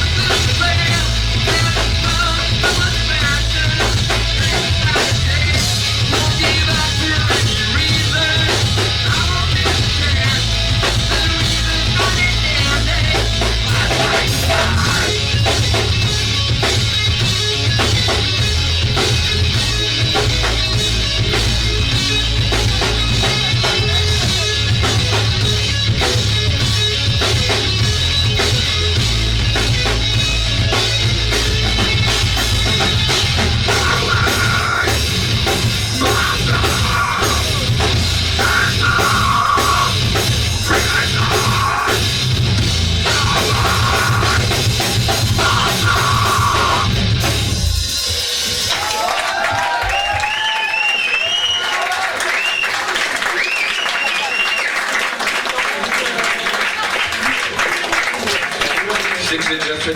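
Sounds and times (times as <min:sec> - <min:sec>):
live rock band playing: 0:00.0 - 0:50.2
drum kit: 0:00.0 - 0:52.0.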